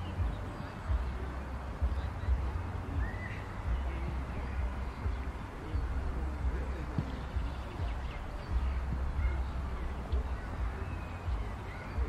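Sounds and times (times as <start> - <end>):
bird chirp: 0.0 - 12.0
distant voices: 0.0 - 12.0
wind rumble on microphone: 0.0 - 12.0.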